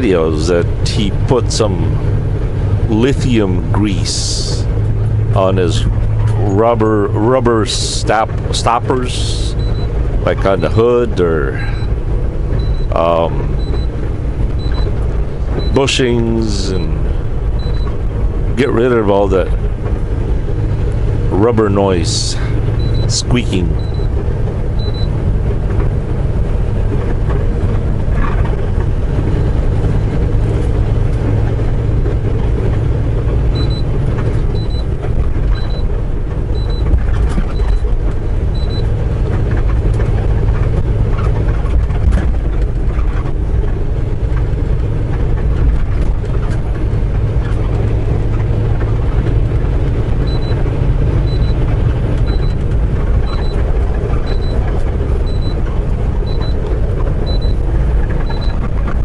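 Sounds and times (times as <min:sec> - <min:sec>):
road noise: 0:00.0 - 0:59.0
truck diesel engine droning: 0:00.0 - 0:59.0.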